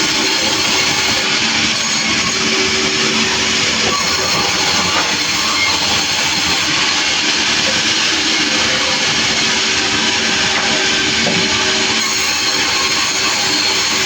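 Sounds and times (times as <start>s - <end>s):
sawmill saw cutting timber: 0.0s - 14.0s.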